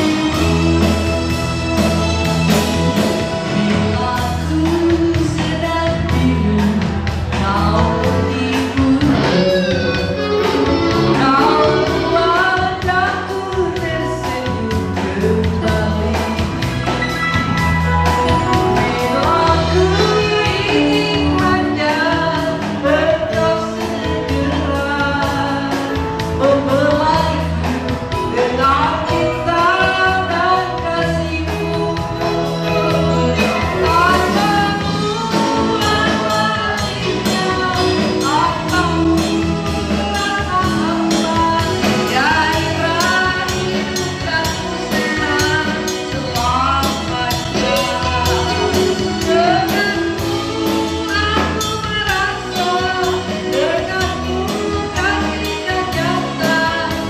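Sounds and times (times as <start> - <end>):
bass line and beat: 0.0 - 57.0
song with singing voice: 0.0 - 57.0.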